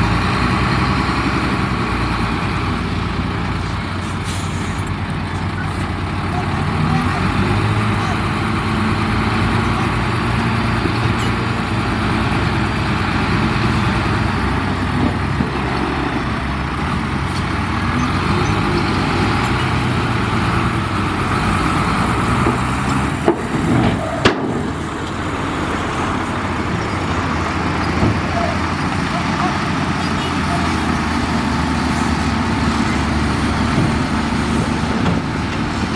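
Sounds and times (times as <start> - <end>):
diesel machinery engine running: 0.0 - 35.9.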